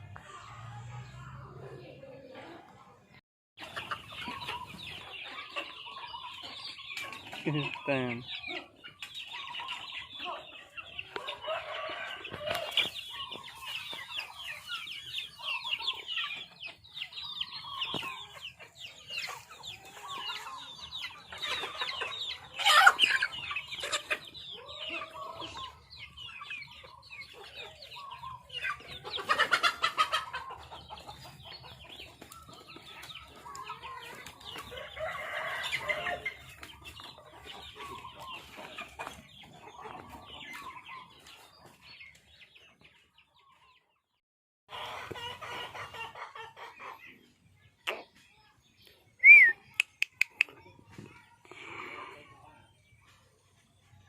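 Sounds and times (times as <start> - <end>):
chickens clucking and calling: 0.0 - 54.0.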